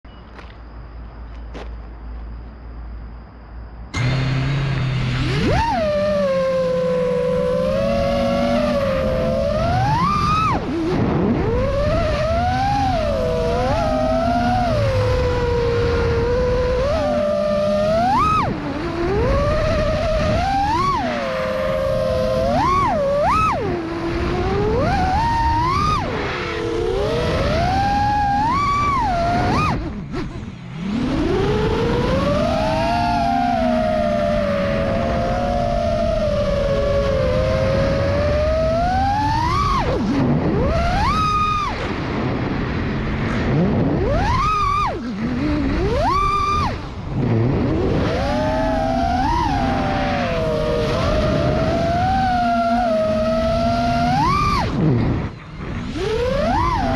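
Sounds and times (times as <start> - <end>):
drone propellers whining: 3.9 - 56.9.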